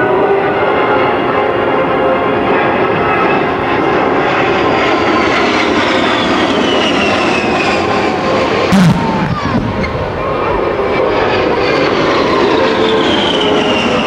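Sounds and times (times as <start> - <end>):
jet passing low: 0.0 - 14.0.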